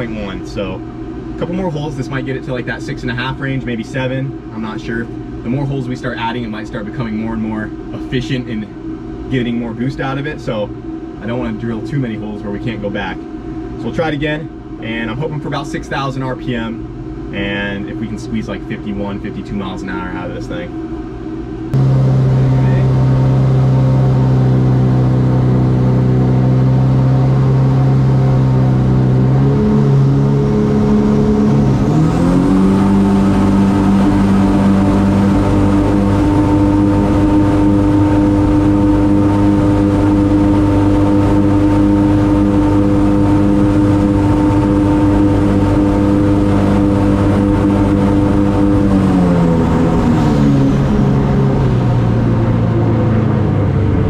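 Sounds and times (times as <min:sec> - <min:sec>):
boat engine revving: 0:00.0 - 0:54.0
faint high whine: 0:00.0 - 0:54.0.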